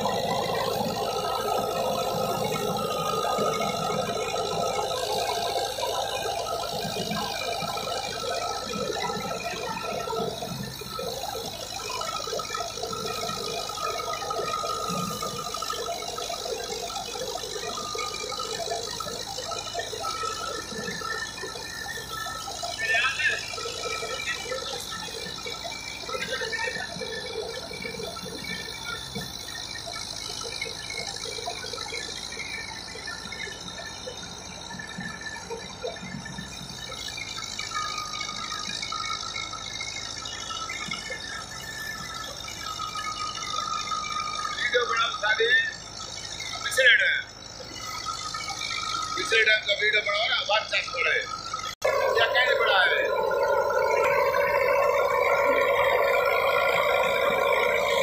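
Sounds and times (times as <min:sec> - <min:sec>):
thresher drum rattling and whirring: 0:00.0 - 0:58.0
tractor diesel engine running: 0:00.0 - 0:58.0.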